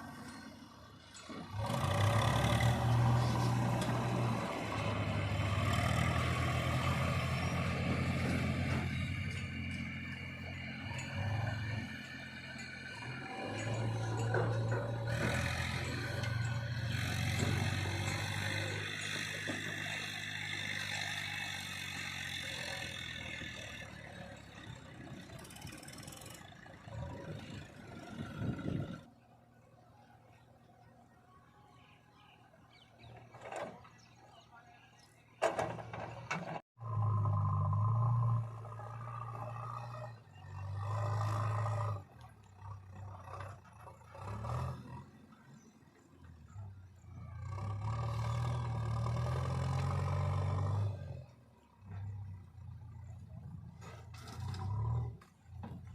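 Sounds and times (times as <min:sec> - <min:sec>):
diesel engine drone and clatter: 0:00.0 - 0:55.9.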